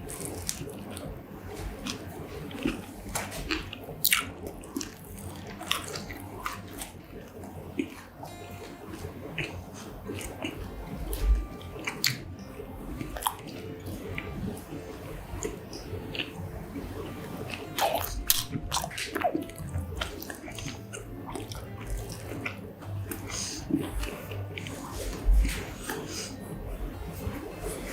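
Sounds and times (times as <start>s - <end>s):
batter crust crunching: 0.0s - 27.9s
person chewing food: 0.0s - 27.9s.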